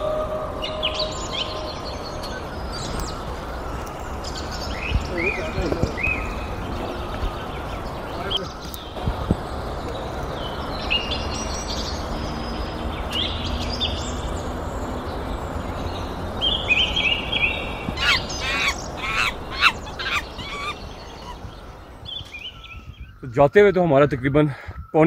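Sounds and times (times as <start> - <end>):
sharp downward-slurred bird calls: 0.0 - 23.2
songbirds singing: 0.0 - 25.0.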